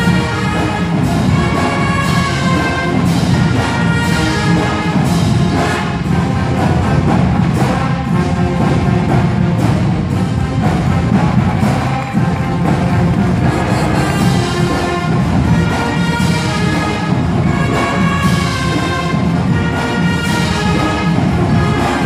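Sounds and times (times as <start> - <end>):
brass section with sousaphones: 0.0 - 22.0
marching drums: 0.0 - 22.0.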